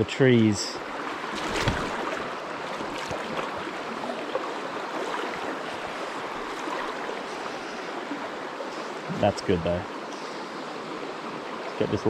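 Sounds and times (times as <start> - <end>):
river water flowing over stones: 0.0 - 12.0.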